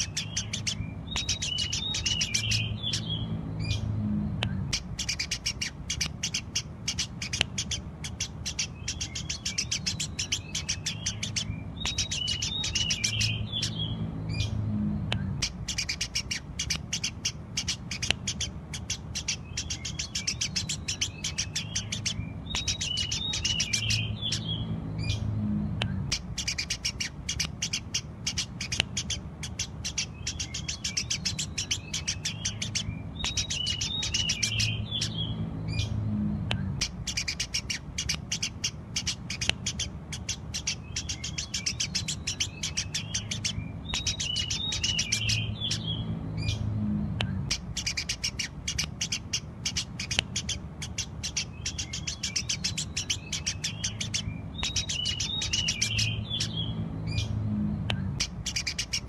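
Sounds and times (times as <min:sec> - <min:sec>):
sparrows chirping: 0:00.0 - 0:59.0
steady low hum: 0:00.0 - 0:59.0.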